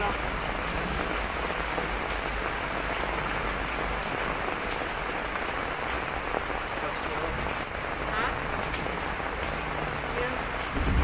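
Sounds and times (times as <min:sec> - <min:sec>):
heavy rain on hard ground: 0:00.0 - 0:11.0.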